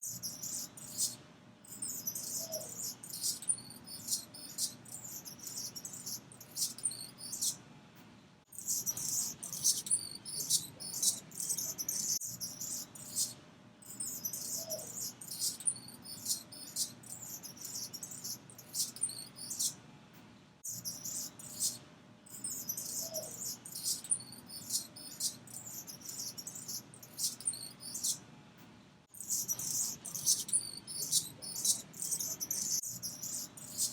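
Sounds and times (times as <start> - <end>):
hummingbird buzzy chirps: 0.0 - 7.6, 8.6 - 19.8, 20.7 - 28.2, 29.2 - 33.9.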